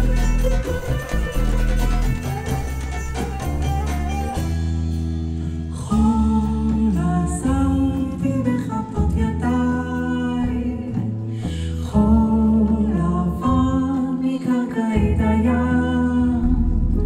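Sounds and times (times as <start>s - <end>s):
double bass low notes: 0.0s - 17.0s.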